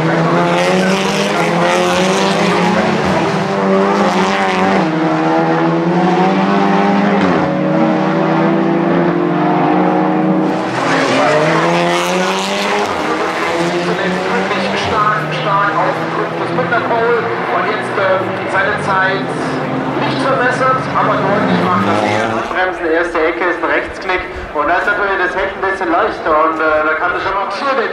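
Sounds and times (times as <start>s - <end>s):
tyres skidding: 0.0s - 27.7s
race car engines running hard: 0.0s - 27.9s.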